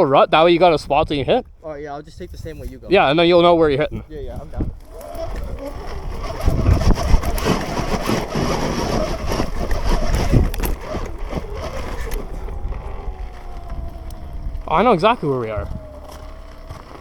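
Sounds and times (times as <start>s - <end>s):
dirt bike rattling over dirt: 0.0s - 17.0s
wind buffeting microphone: 0.0s - 17.0s
electric motor whine: 3.0s - 17.0s.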